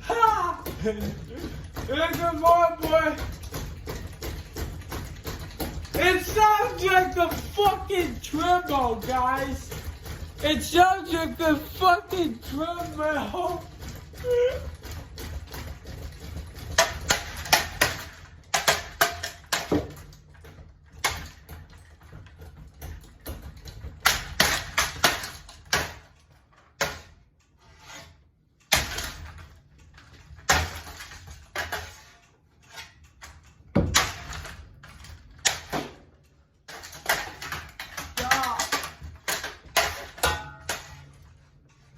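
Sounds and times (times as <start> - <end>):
ceiling fan clattering: 0.0 - 41.9.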